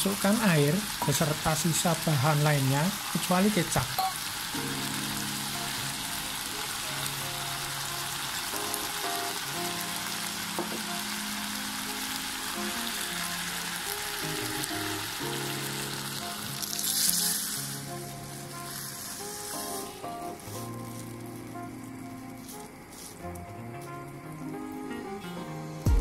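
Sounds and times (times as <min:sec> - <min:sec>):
water hissing in hot pan: 0:00.0 - 0:25.9
background music: 0:00.0 - 0:26.0
meat sizzling in a pan: 0:00.0 - 0:26.0.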